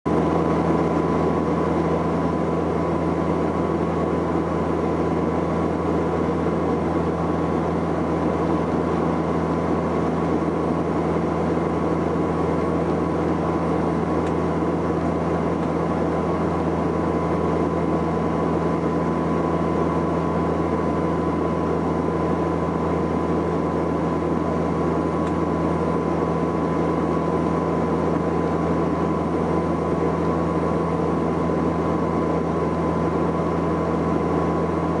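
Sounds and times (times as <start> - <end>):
turboprop engines droning: 0.1 - 35.0.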